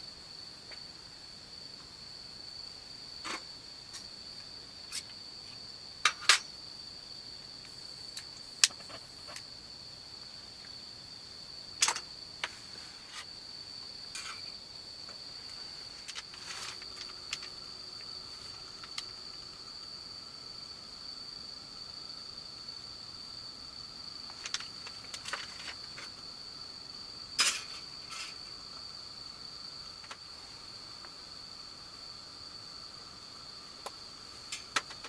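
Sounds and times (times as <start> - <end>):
cricket trilling: 0.0 - 35.0.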